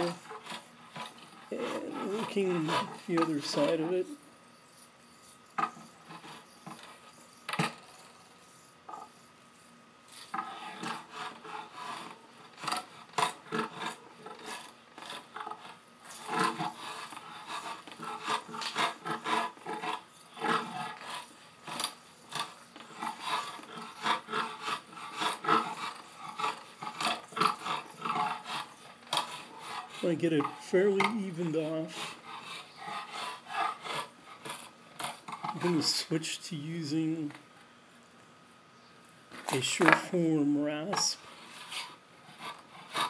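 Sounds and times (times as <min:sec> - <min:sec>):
drawknife scraping bamboo: 0:00.0 - 0:04.0, 0:04.7 - 0:09.3, 0:10.1 - 0:35.8, 0:40.8 - 0:43.0.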